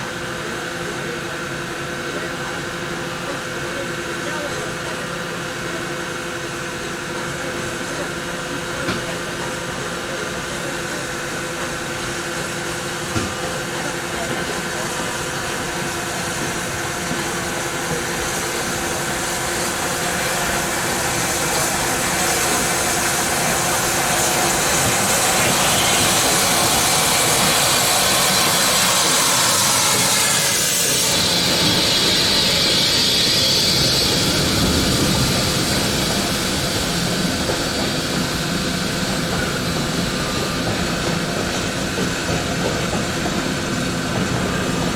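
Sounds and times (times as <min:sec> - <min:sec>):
steam locomotive hissing: 0:00.0 - 0:44.9.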